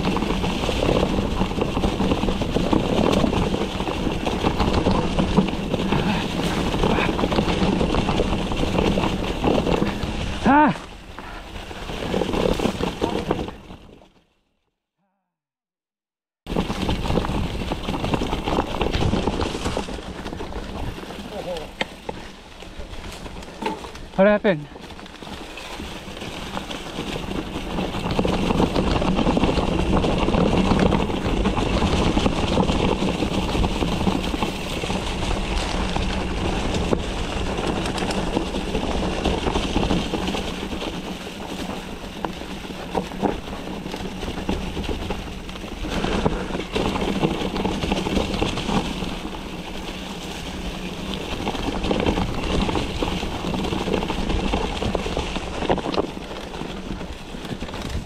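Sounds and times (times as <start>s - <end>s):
bike knocking over rough ground: 0.0s - 14.2s, 16.5s - 58.0s
bike tyre and drivetrain noise: 0.0s - 14.7s, 16.5s - 58.0s.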